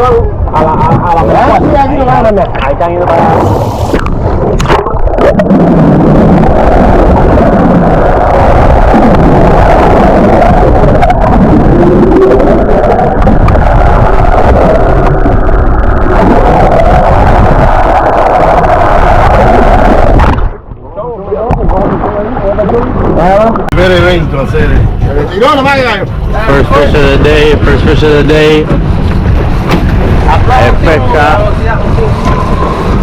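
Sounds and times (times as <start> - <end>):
boat engine and water rush: 0.0 - 33.0.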